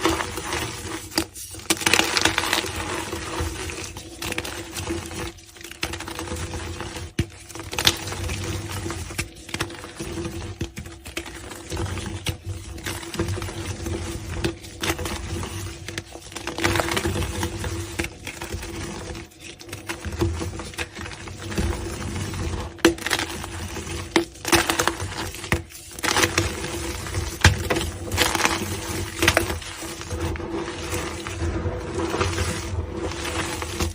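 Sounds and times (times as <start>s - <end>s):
chalk crunching and crackling: 0.0s - 33.9s.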